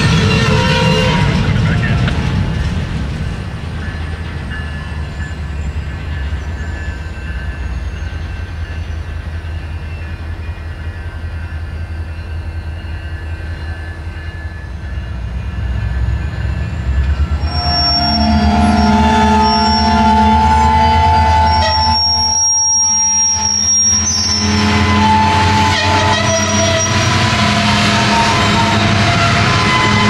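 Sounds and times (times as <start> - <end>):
freight cars rumbling: 0.0 - 30.0
high metallic squeal: 4.0 - 30.0.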